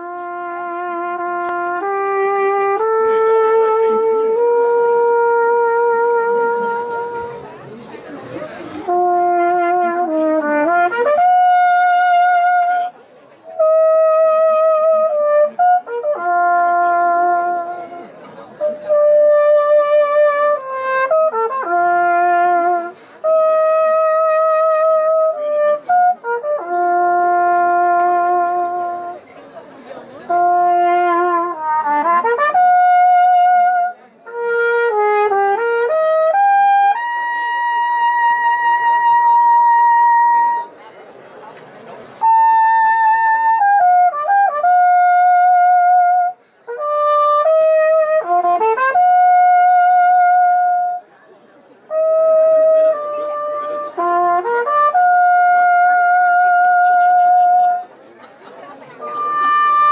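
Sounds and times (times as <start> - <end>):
brass horn playing slow melody: 0.0 - 7.5, 8.5 - 29.2, 30.3 - 40.6, 42.2 - 51.1, 51.9 - 57.8, 59.0 - 59.9.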